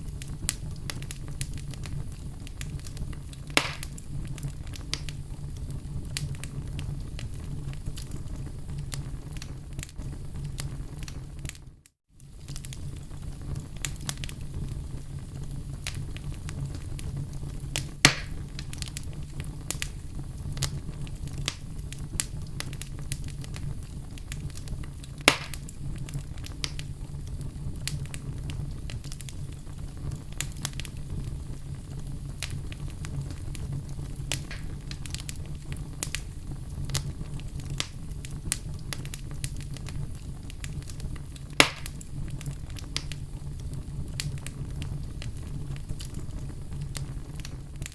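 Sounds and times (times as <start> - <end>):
fire crackling in fireplace: 0.0 - 47.9
loud pops of fire: 0.0 - 47.9.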